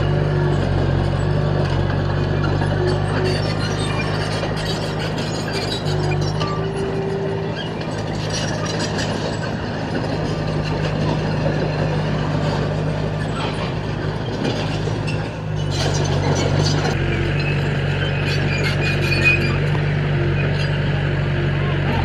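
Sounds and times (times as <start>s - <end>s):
metal clanks and rattles: 0.0s - 19.9s
heavy diesel engine running: 0.0s - 22.0s.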